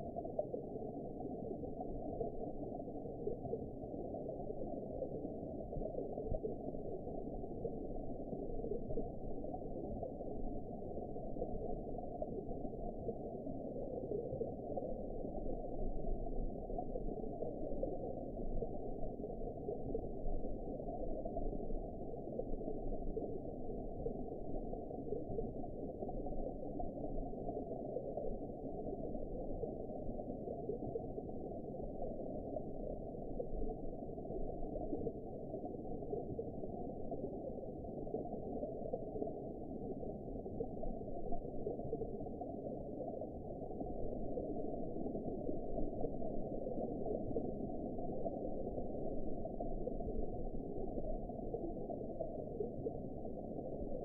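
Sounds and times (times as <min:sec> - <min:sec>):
muffled underwater rush: 0:00.0 - 0:54.0.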